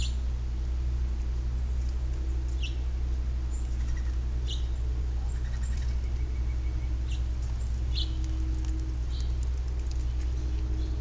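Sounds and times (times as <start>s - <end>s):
low electrical hum: 0.0s - 11.0s
songbirds chirping: 0.0s - 11.0s.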